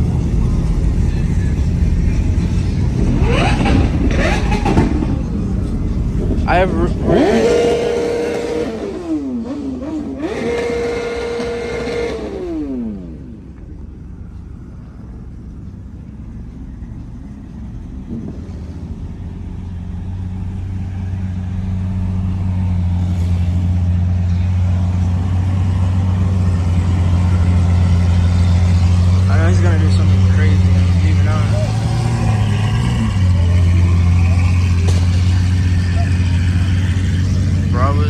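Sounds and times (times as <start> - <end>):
car engine revving: 0.0 - 38.0
deep steady engine drone: 0.0 - 38.0.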